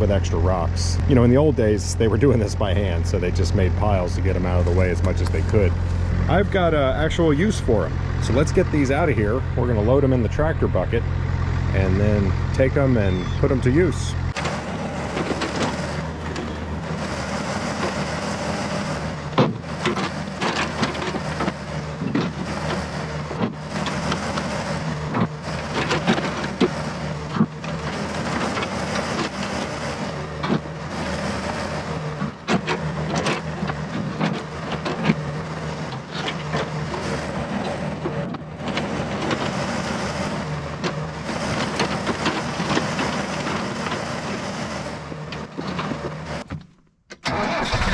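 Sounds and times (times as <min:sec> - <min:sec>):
excavator diesel engine running: 0:00.0 - 0:46.6, 0:47.2 - 0:47.9.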